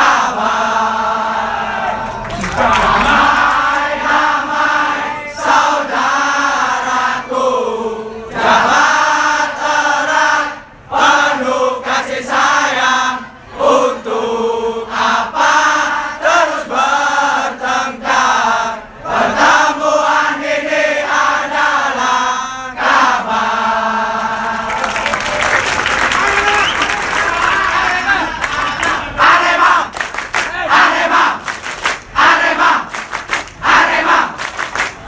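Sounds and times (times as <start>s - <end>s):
crowd chanting in unison: 0.0s - 25.0s, 27.0s - 35.0s.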